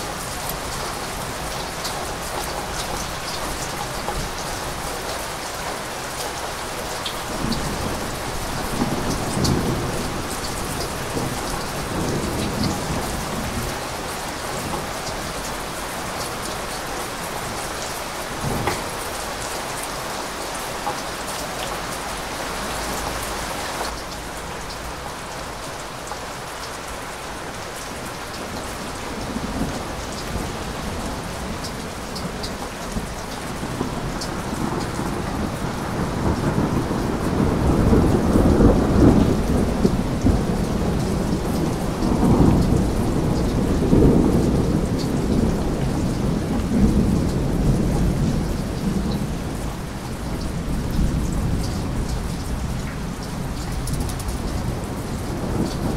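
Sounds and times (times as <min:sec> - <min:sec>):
heavy rain: 0:00.0 - 0:55.9
rolling thunder: 0:06.8 - 0:24.6, 0:28.0 - 0:55.9.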